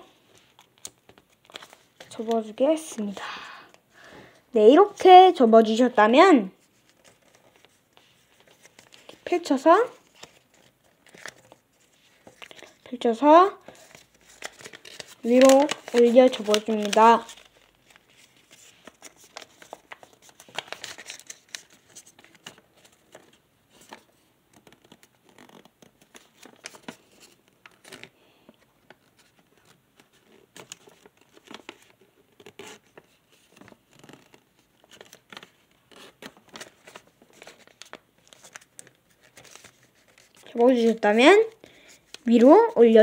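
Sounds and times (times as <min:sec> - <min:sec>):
paper crinkling and rustling: 0:00.2 - 0:03.2, 0:06.6 - 0:13.0, 0:13.6 - 0:43.0.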